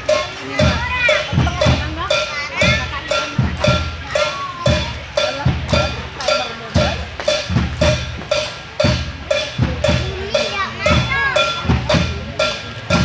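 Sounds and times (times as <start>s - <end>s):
deep drum thumps: 0.0s - 13.0s
ringing metal clank: 0.0s - 13.0s.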